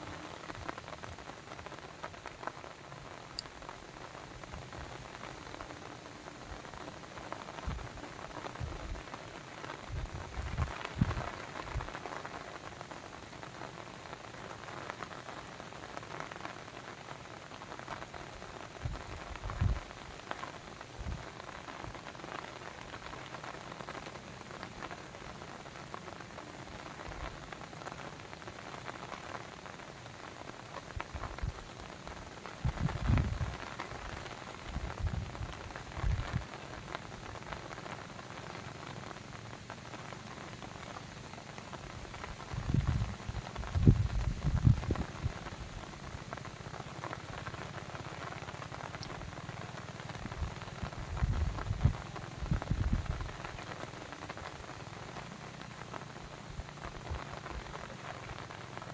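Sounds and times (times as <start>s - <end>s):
dense water patter: 0.0s - 58.9s.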